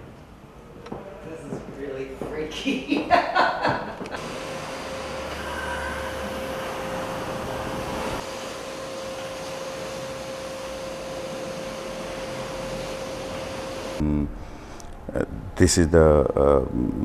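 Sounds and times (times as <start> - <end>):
mechanical hum and hiss: 0.0 - 17.0.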